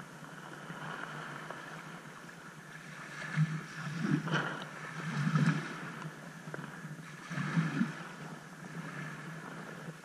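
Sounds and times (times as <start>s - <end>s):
seawater lapping over sand: 0.0s - 10.0s.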